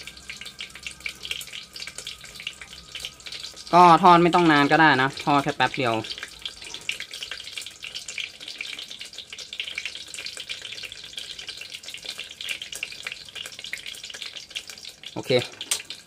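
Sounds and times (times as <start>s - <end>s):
sausages sizzling in oil: 0.0s - 16.0s.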